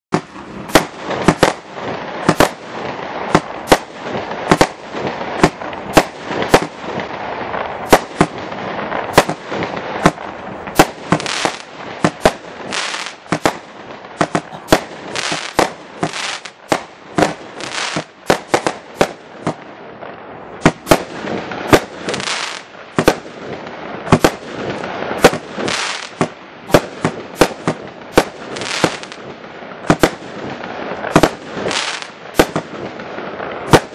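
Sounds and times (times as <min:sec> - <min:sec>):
continuous firework hiss: 0:00.1 - 0:33.9
firework bangs: 0:00.1 - 0:33.9.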